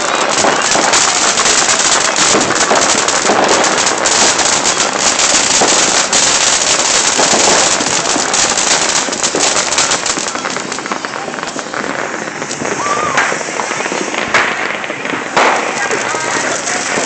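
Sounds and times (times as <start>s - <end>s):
firework hissing and crackling: 0.0s - 17.0s.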